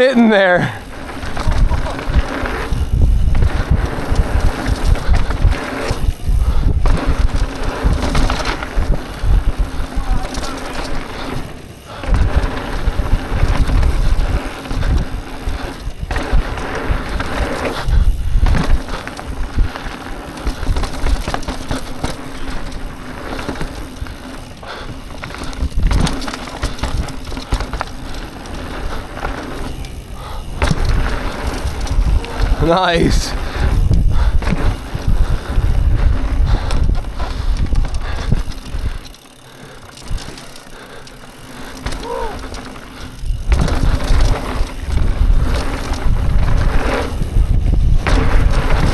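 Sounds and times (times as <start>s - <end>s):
bike rattling over bumps: 0.0s - 48.9s
bike tyres skidding on dirt: 0.0s - 48.9s
wind buffeting microphone: 0.8s - 39.3s, 41.9s - 48.9s.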